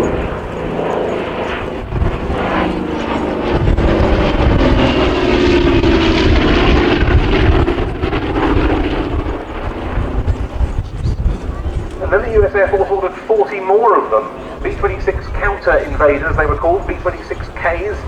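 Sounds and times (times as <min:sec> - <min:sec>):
propeller aircraft engines droning: 0:00.0 - 0:18.0.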